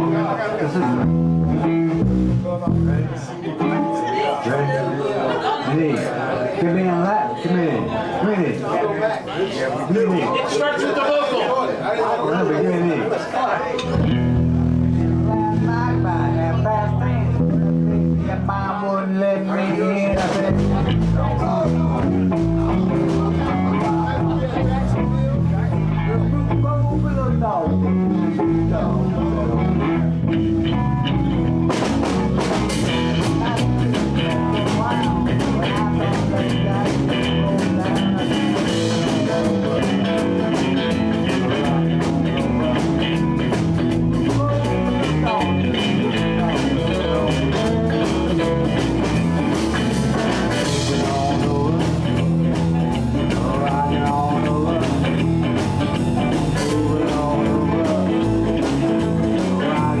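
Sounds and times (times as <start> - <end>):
blues band playing: 0.0 - 5.6, 13.7 - 60.0.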